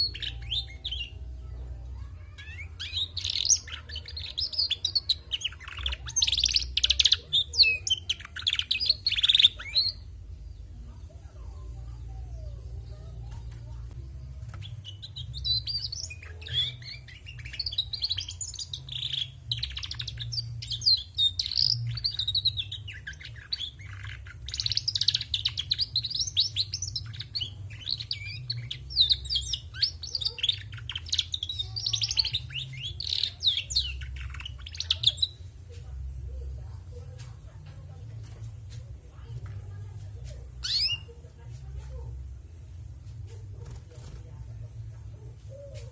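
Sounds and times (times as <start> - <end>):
canary twittering song: 0.0 - 10.8, 12.0 - 45.9.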